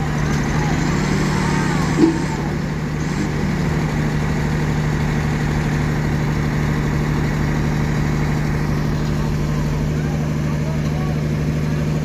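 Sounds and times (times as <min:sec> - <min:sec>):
truck engine running steadily: 0:00.0 - 0:12.0.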